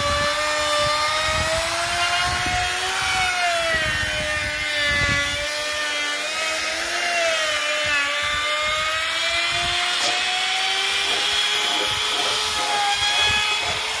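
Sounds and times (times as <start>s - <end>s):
router whining: 0.0s - 14.0s.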